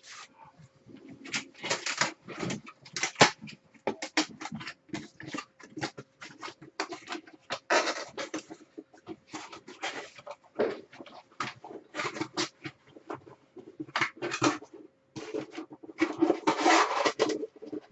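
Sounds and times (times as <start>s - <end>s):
trading cards rustling and tapping: 1.0s - 17.9s.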